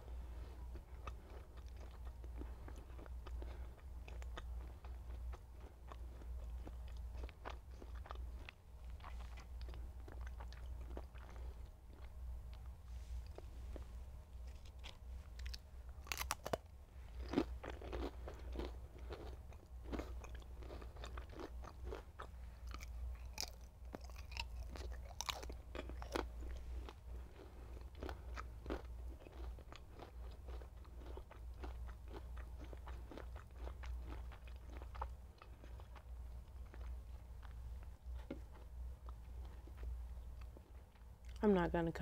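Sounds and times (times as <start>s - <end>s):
person chewing crunchy food: 0.0s - 41.4s
steady low hum: 0.0s - 42.0s.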